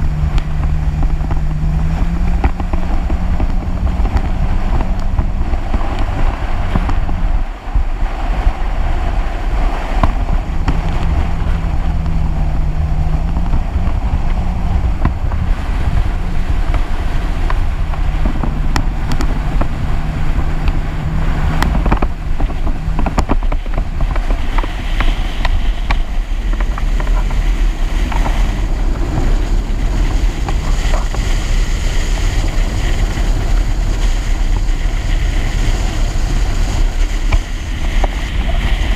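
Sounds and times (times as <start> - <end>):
jet ski engine drone: 0.0 - 38.9
rushing water: 0.0 - 38.9
wind buffeting microphone: 0.0 - 38.9.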